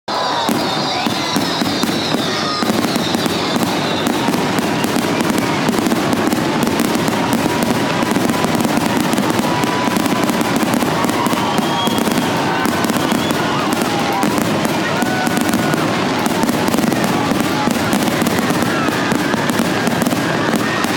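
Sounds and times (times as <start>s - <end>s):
fireworks bangs and crackling: 0.1s - 20.9s
fireworks whistling: 0.1s - 20.9s.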